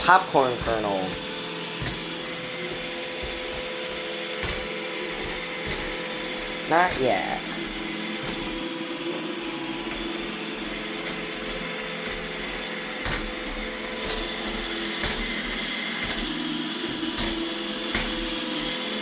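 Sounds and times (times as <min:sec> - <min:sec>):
robot vacuum humming and whining: 0:00.0 - 0:19.0.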